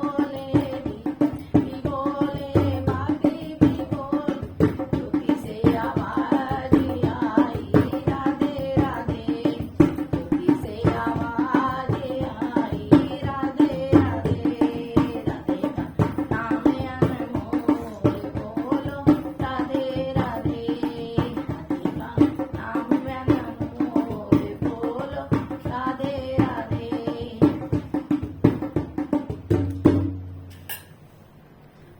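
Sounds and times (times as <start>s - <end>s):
tabla playing: 0.0s - 31.1s.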